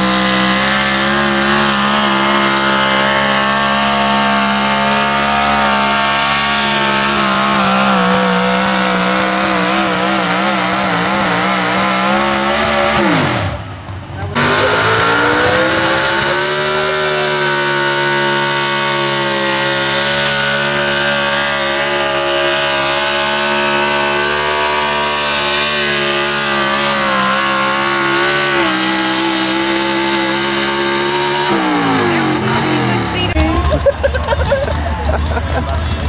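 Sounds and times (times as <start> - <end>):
truck engine at high revs: 0.0 - 36.0.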